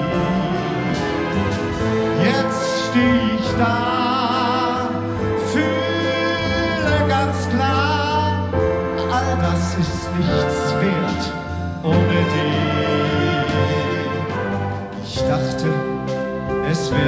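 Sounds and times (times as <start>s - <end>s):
wind band playing ballad: 0.0s - 17.0s
man singing into microphone: 2.2s - 14.4s, 15.0s - 16.0s, 16.6s - 17.0s.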